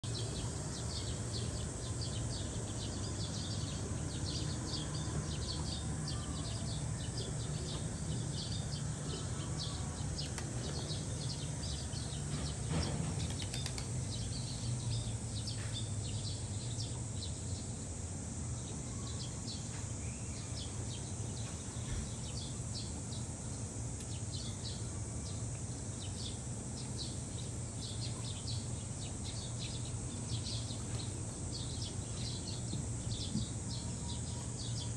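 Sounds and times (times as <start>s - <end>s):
steady high buzz: 0.0s - 34.9s.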